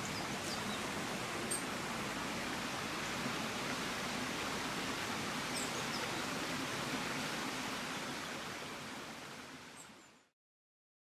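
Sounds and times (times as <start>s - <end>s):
waterfall and stream rushing: 0.0s - 10.3s.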